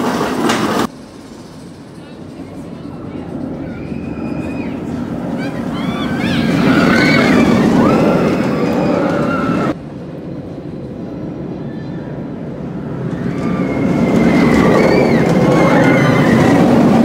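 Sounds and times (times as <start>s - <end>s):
roller coaster train rumbling: 0.0s - 17.0s
high wavering squeals: 2.7s - 17.0s.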